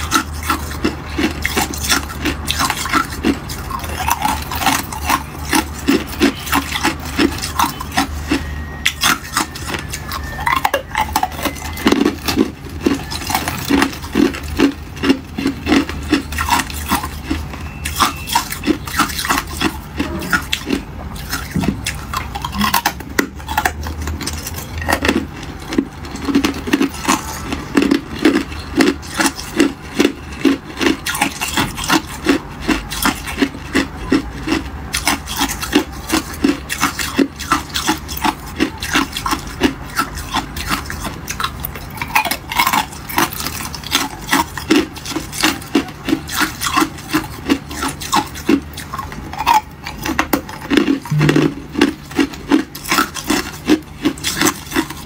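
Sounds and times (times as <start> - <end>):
ice cubes crunching: 0.0 - 55.0.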